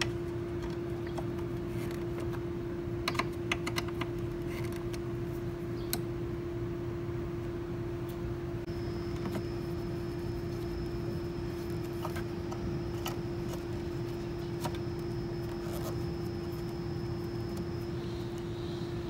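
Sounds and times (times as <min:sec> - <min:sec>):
machine humming with high whine: 0:00.0 - 0:19.0.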